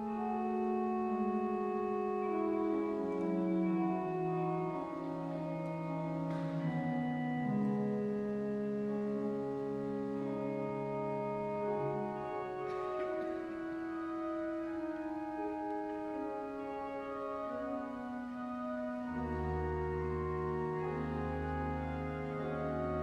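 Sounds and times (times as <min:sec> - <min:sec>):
pipe organ chords: 0:00.0 - 0:23.0.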